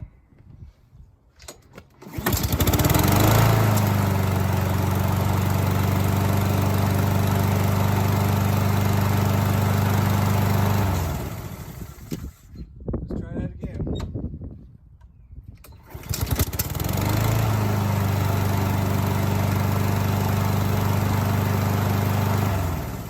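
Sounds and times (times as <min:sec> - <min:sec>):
lawn mower engine pull-started: 0:01.4 - 0:12.6, 0:15.6 - 0:23.0.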